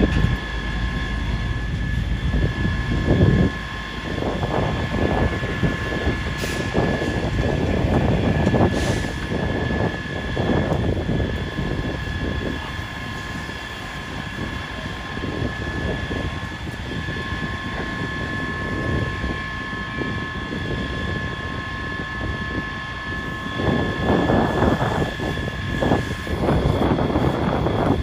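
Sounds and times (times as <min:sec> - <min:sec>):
constant high whine: 0:00.0 - 0:28.0
heavy vehicle engines rumbling: 0:00.0 - 0:28.0
wind buffeting microphone: 0:00.0 - 0:28.0.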